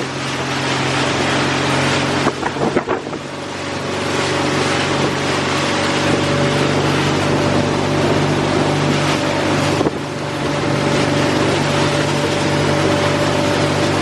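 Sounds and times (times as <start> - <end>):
engine running: 0.0 - 14.0
wind noise on microphone: 1.0 - 14.0.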